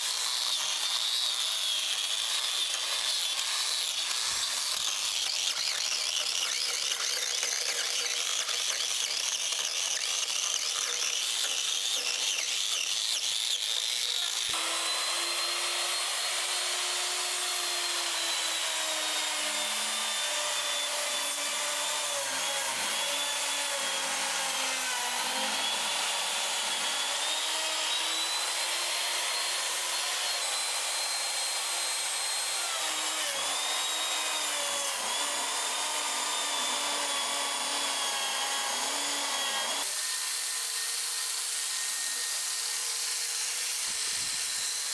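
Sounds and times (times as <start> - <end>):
power tool rasping into wood: 0.0 - 44.9.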